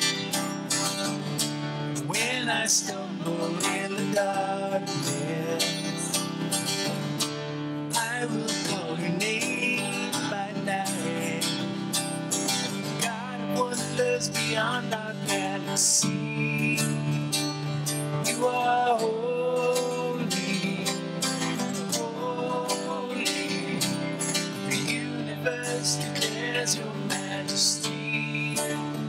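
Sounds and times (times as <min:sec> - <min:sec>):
strummed acoustic guitars: 0:00.0 - 0:29.0.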